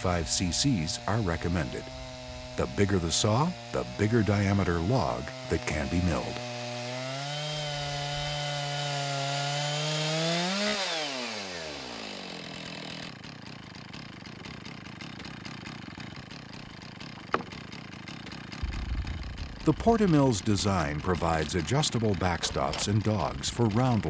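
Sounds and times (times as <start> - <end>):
chainsaw cutting timber: 0.0 - 24.0
chainsaw engine winding down: 0.0 - 24.0.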